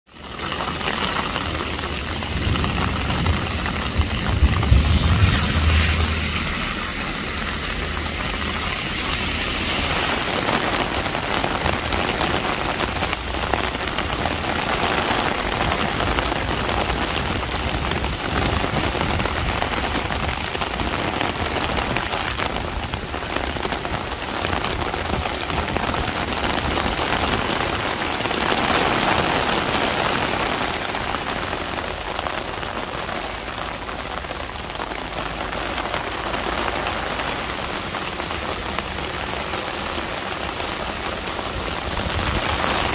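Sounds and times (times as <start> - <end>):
heavy rain on pavement: 0.1 - 42.9.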